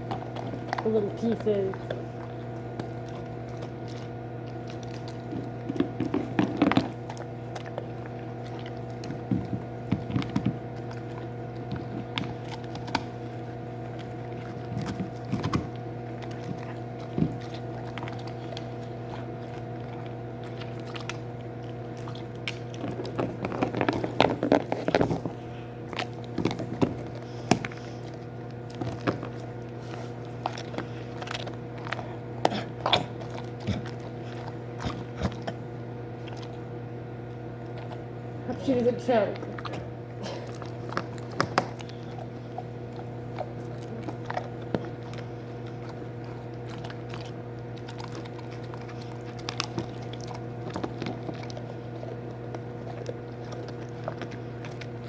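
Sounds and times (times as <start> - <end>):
dog chewing hard cookie: 0.0 - 55.0.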